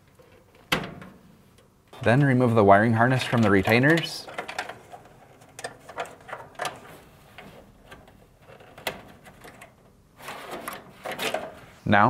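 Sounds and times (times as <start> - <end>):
wires rustling against sheet metal: 0.0 - 12.0.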